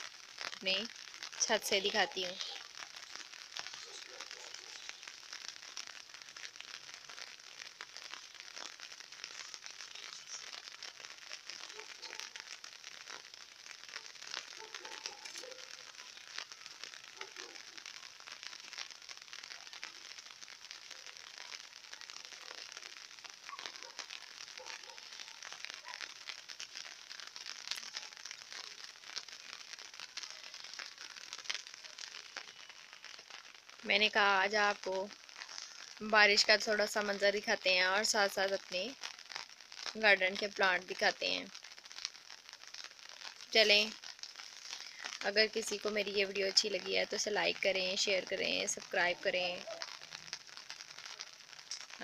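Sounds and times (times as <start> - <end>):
light rain patter: 0.0 - 52.0.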